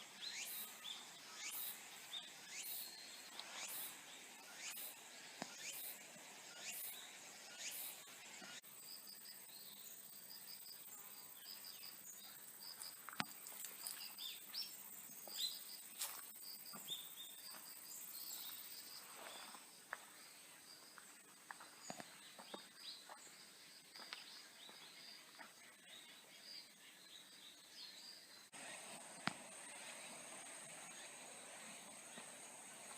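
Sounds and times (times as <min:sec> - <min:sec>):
insects chirping: 0:00.1 - 0:32.9.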